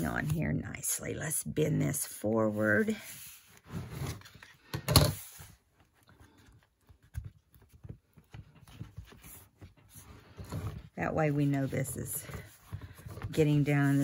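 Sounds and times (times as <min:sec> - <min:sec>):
book pages rustling: 0:01.8 - 0:14.0.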